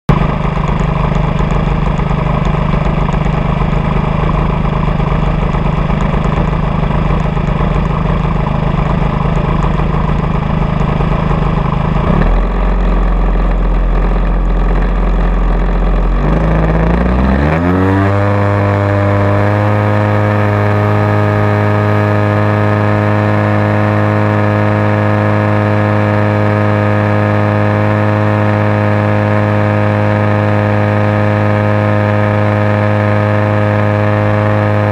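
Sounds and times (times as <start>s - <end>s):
model aircraft engine running: 0.1s - 34.9s.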